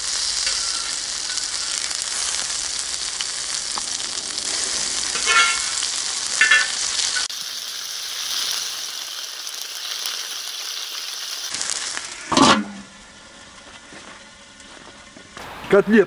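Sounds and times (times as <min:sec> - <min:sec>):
meat sizzling in oil: 0:00.0 - 0:15.4.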